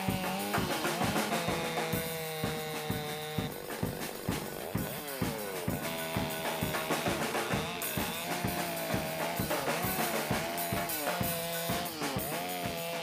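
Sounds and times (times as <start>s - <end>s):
drum-kit beat: 0.0s - 13.0s.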